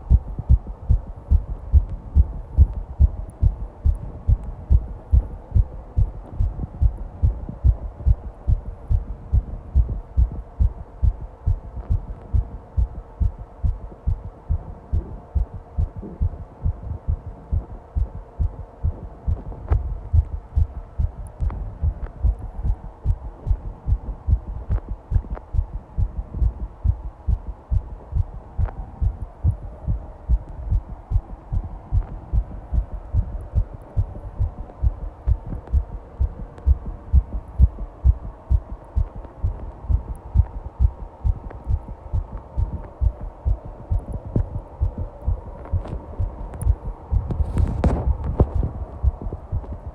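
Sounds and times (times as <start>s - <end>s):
faint steady hum: 0.0s - 49.9s
fast heartbeat thumps: 0.0s - 49.9s.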